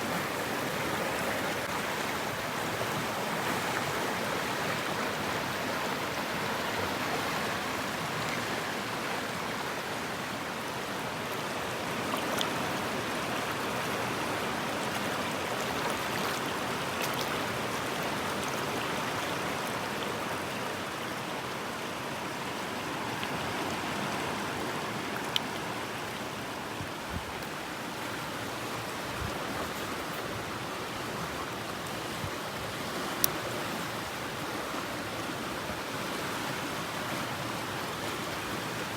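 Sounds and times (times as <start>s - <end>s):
stream rushing water: 0.0s - 38.9s.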